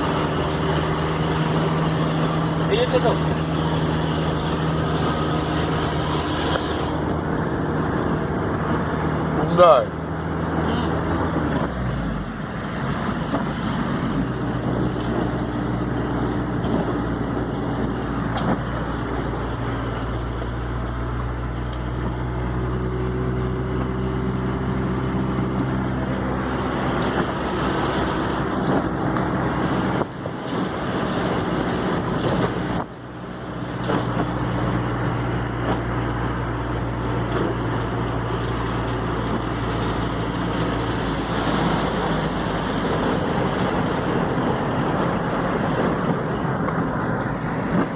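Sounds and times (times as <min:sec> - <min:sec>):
car engine hum: 0:00.0 - 0:47.9
road noise: 0:00.0 - 0:47.9.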